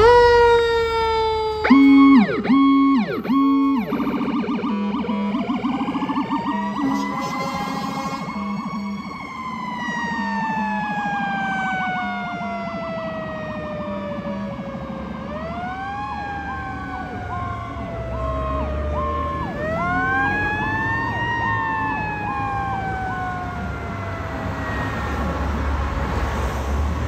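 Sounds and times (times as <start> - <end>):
pulsing siren tone: 0.0 - 25.8
fire engine siren wailing: 0.0 - 27.0
low rumble of traffic: 0.0 - 27.0.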